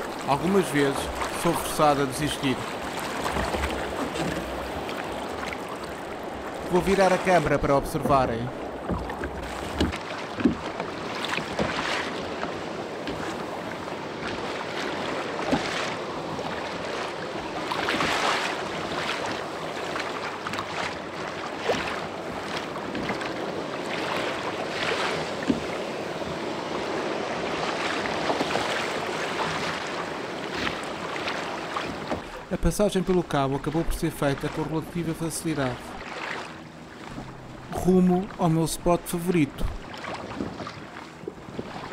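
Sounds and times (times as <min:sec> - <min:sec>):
sea water sloshing and splashing: 0:00.0 - 0:41.9
water slapping on hull: 0:00.0 - 0:41.9.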